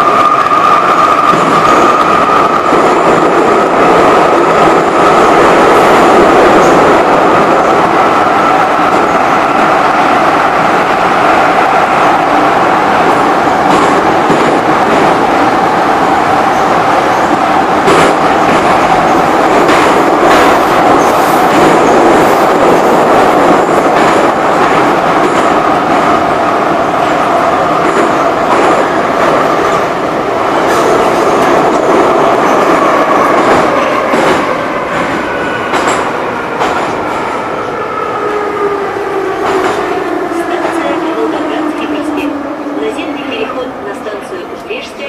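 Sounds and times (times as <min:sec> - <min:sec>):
train rumbling through tunnel: 0:00.0 - 0:45.0.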